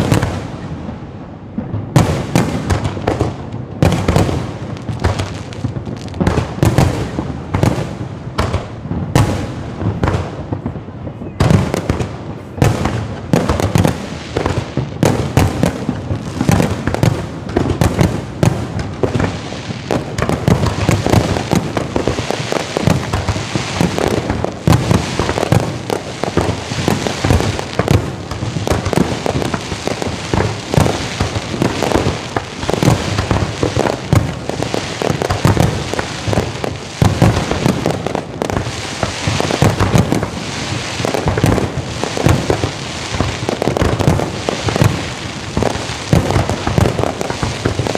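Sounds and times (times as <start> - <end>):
fireworks explosions: 0.0 - 47.9.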